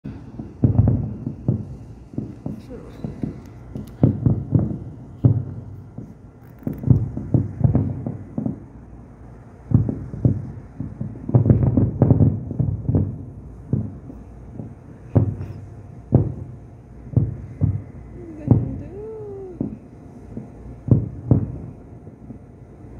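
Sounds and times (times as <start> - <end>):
fireworks booming: 0.1 - 22.9.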